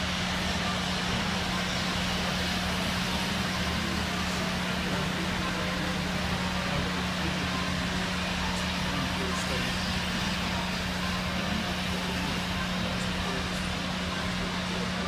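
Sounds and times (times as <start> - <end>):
steam train hissing: 0.0 - 15.0.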